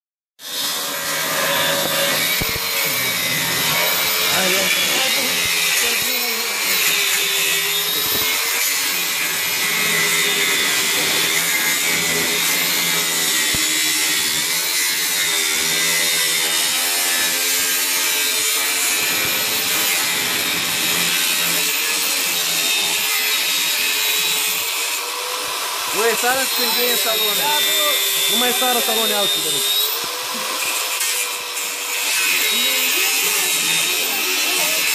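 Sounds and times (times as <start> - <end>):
angle grinder cutting metal: 0.4 - 34.9.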